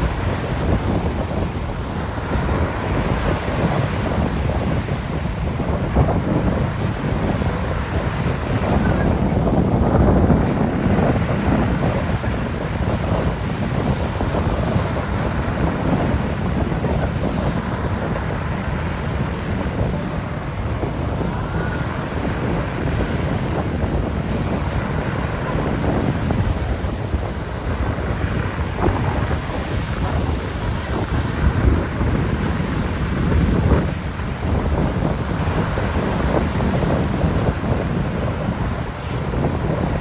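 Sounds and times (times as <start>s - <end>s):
choppy sea water: 0.0s - 40.0s
wind buffeting microphone: 0.0s - 40.0s.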